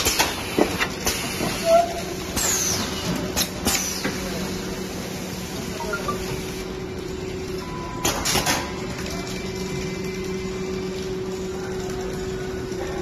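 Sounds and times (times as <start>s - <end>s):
packing machine humming and ticking: 0.0s - 13.0s.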